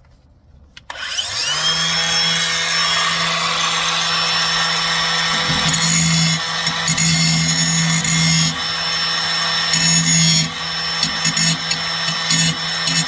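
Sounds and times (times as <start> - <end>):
angle grinder grinding metal: 0.9 - 13.0.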